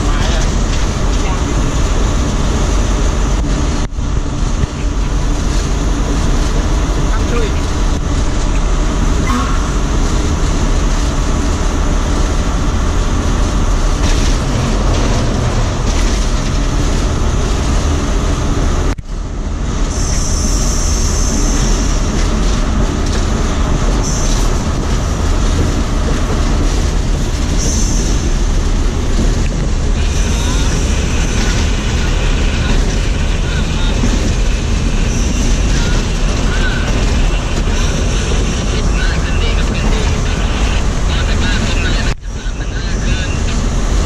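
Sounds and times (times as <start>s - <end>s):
locomotive engine drone: 0.0s - 44.0s
wheel and rail noise: 0.0s - 44.0s.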